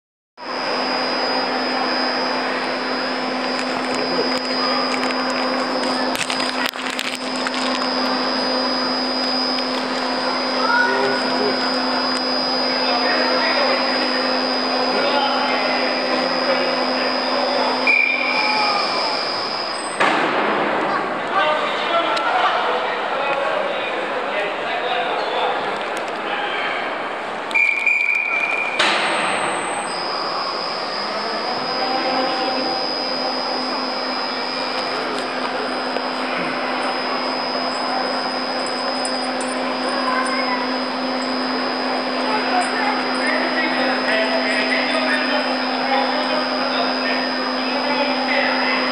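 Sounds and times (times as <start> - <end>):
steady mechanical whir: 0.4 - 22.3, 26.8 - 48.9
machine hum with high whine: 0.4 - 48.9.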